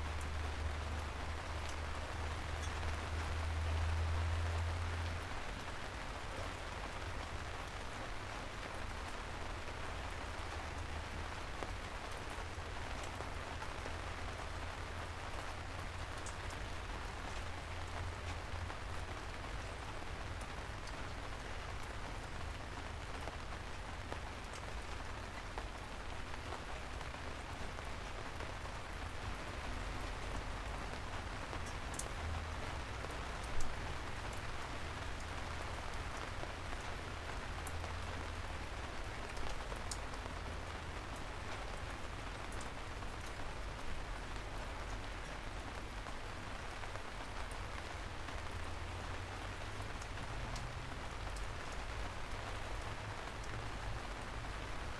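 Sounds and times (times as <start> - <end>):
rain falling: 0.0 - 54.9
ticks of single raindrops: 0.0 - 54.9.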